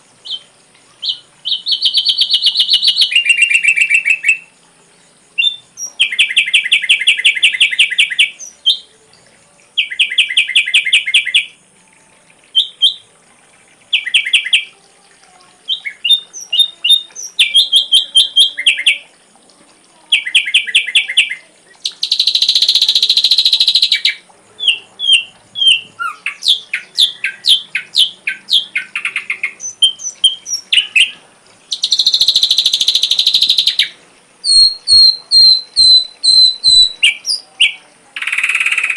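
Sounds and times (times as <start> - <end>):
bird singing varied phrases: 0.0 - 4.6, 5.3 - 9.1, 9.8 - 11.6, 12.2 - 13.2, 13.8 - 14.8, 15.5 - 19.2, 20.1 - 38.9.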